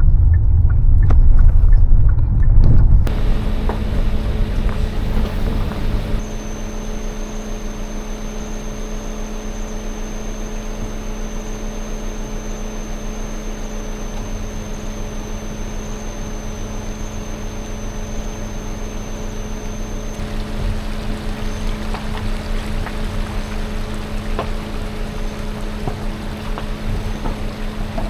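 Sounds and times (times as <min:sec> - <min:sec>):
motor running with high whine: 0:03.1 - 0:28.0.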